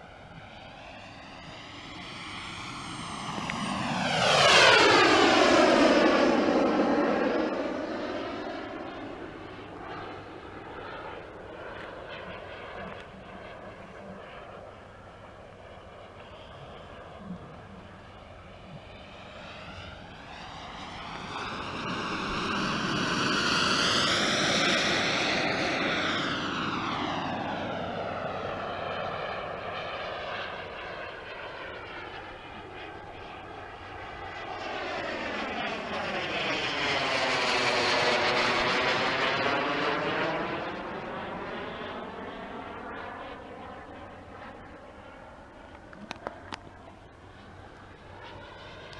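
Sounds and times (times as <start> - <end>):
model jet flying past: 0.0 - 48.9.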